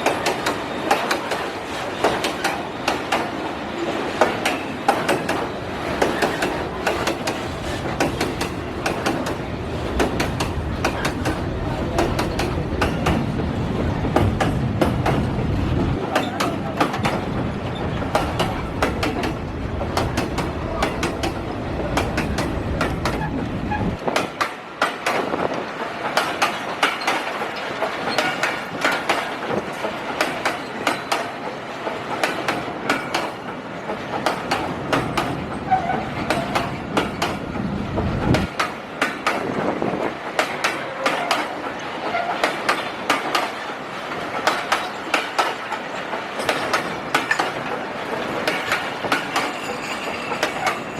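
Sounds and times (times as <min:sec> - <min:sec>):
train wheels clicking over rail joints: 0:00.0 - 0:50.9.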